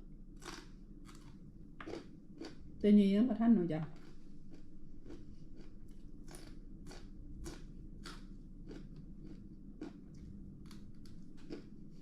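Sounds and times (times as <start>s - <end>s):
person chewing crunchy vegetables: 0.4s - 2.6s, 4.0s - 12.0s.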